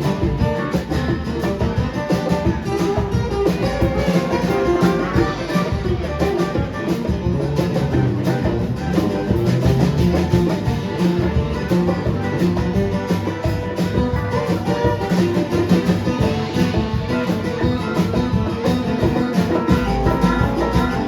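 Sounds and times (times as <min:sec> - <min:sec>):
guitars playing: 0:00.0 - 0:21.0
steady drum beat: 0:00.0 - 0:21.0.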